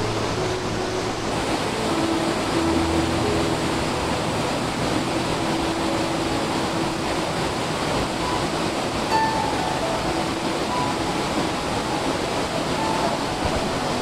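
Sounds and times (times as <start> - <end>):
waterfall rushing into a pool: 0.0 - 14.0.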